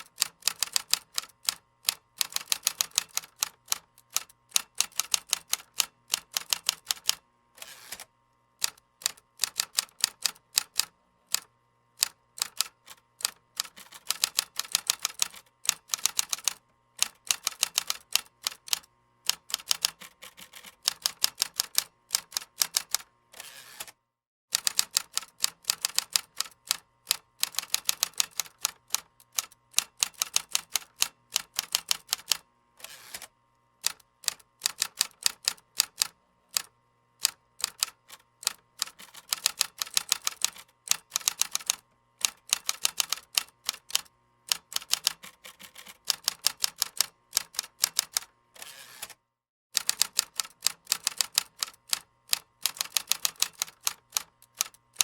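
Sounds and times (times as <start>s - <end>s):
computer keyboard typing: 0.1s - 7.2s, 8.6s - 23.1s, 24.5s - 32.4s, 33.8s - 48.3s, 49.8s - 55.0s.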